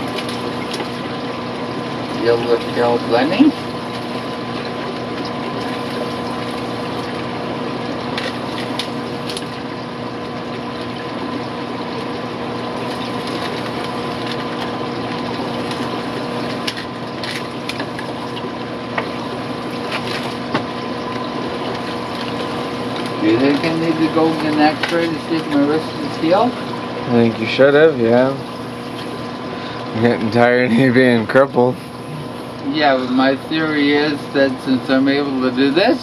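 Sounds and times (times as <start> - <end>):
aquarium pumps humming: 0.0 - 36.0.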